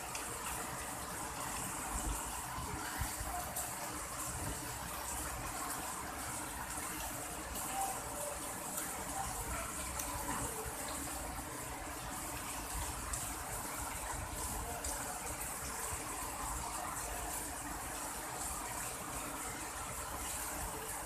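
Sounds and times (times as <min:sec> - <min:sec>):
heavy rain on concrete and leaves: 0:00.0 - 0:21.0.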